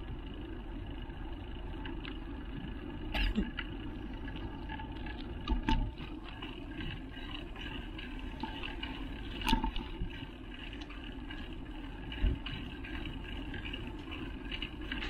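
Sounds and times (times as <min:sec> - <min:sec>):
bike tyres and drivetrain hum: 0:00.0 - 0:15.0.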